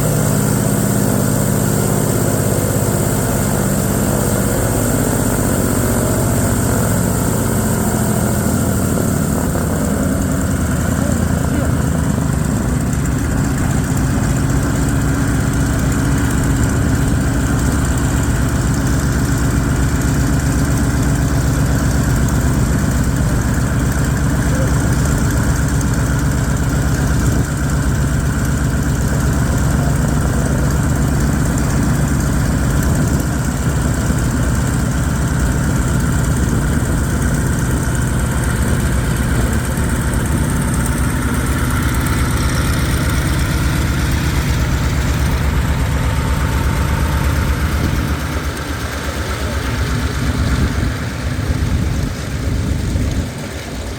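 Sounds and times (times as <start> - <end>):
radial aircraft engine running: 0.0 - 53.9.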